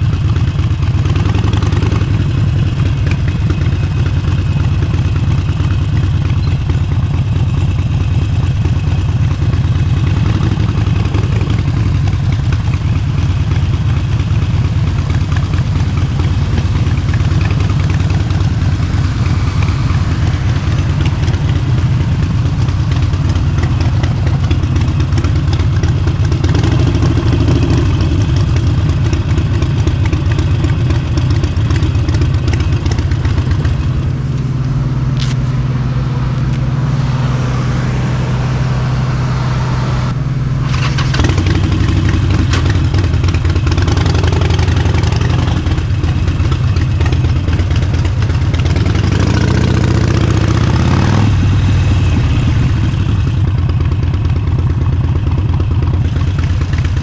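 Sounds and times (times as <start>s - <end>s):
motorcycle engine pulsing: 0.0s - 57.0s.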